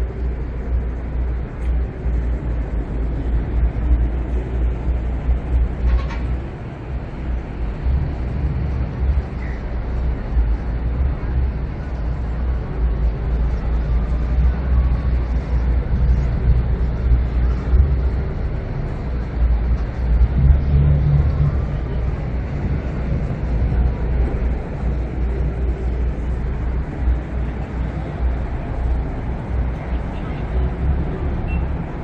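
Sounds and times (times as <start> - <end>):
city traffic rumble: 0.0 - 32.0
low drone: 0.0 - 32.0.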